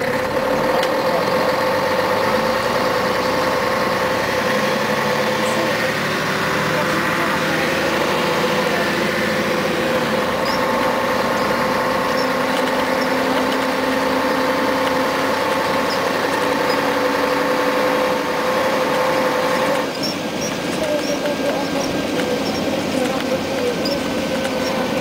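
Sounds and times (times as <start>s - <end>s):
bus engine whine from inside: 0.0s - 25.0s.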